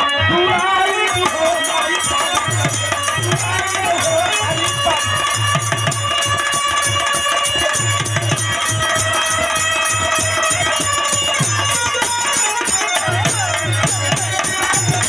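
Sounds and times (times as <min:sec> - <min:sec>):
jingling percussion: 0:00.0 - 0:15.0.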